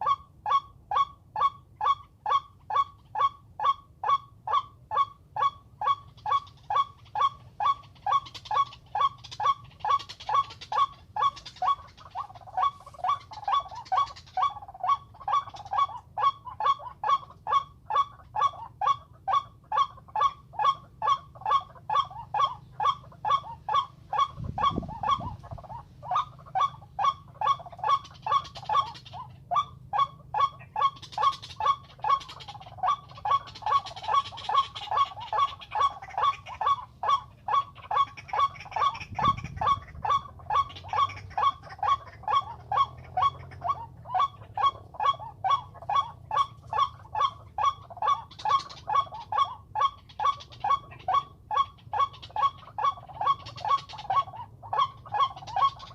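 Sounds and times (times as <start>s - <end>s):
waterhen calling nasal honks: 0.0s - 55.9s.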